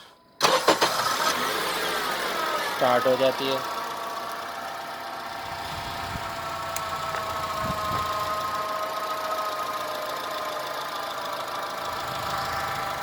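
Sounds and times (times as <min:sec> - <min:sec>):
car engine idling with whine: 0:01.0 - 0:13.0.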